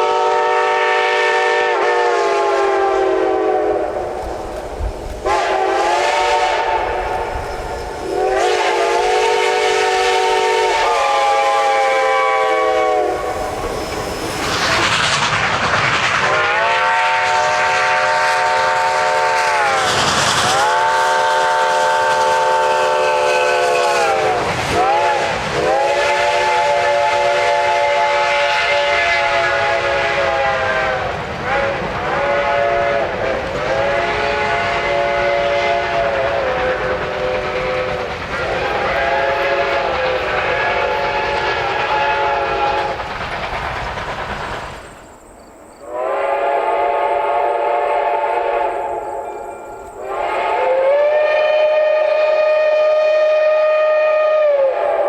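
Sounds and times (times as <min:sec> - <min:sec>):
steam locomotive chime whistle: 0:00.0 - 0:04.1, 0:05.2 - 0:14.8, 0:16.2 - 0:43.2, 0:44.7 - 0:55.0
steam hissing: 0:00.0 - 0:55.0.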